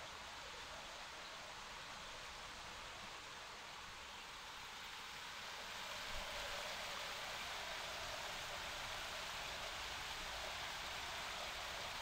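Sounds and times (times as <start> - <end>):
small waterfall splashing: 1.6 - 12.0.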